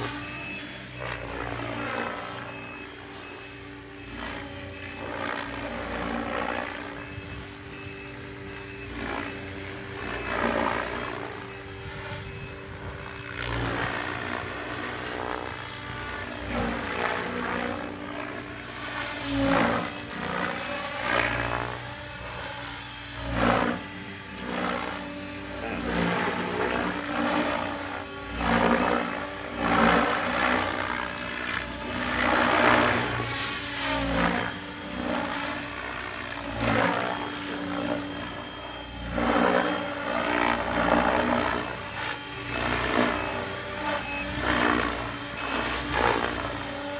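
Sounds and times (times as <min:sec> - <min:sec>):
model helicopter rotor and motor: 0:00.0 - 0:46.9.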